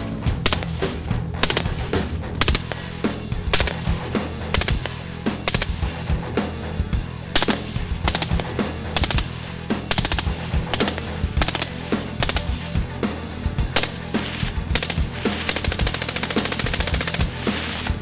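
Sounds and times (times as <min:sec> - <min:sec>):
background music with bass: 0:00.0 - 0:18.0
suppressed rifle bursts: 0:00.2 - 0:06.1, 0:07.3 - 0:12.8, 0:13.7 - 0:18.0.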